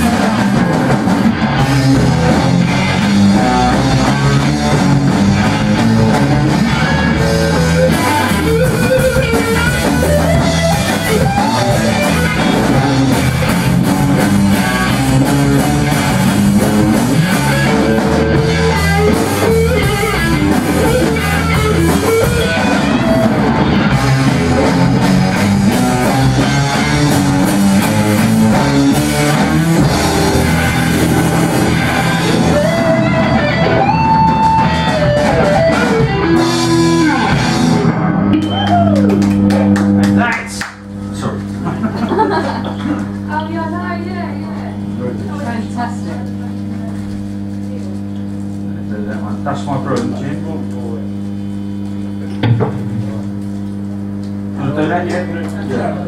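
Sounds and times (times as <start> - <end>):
drum kit: 0.0 - 43.3, 51.1 - 53.4
blues band playing: 0.0 - 45.0
electric guitars: 0.0 - 56.0.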